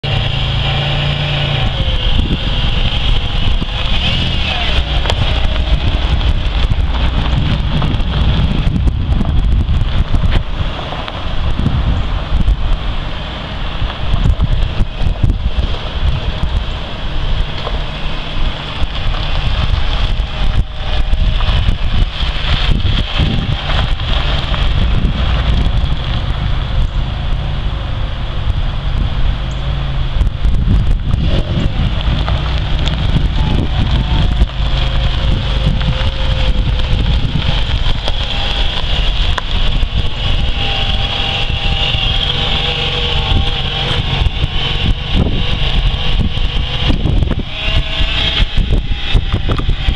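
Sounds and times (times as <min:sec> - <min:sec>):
car engine running: 0:00.0 - 0:49.9
wind noise on microphone: 0:00.0 - 0:49.9.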